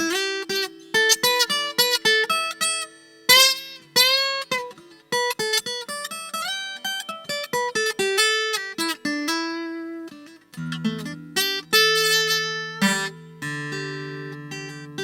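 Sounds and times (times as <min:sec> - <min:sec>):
picked guitar melody: 0:00.0 - 0:15.0
strummed guitar chords: 0:00.0 - 0:15.0.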